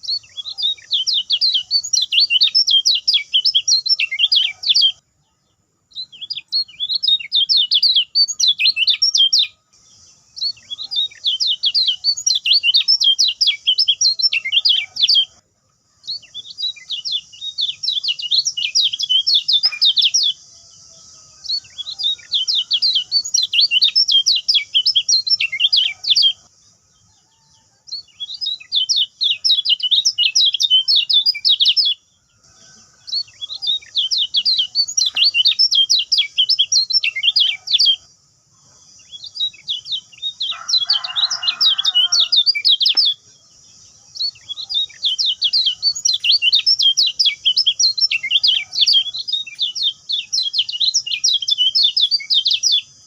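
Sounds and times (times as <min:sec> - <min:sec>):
songbird twittering chirps: 0:00.0 - 0:53.0.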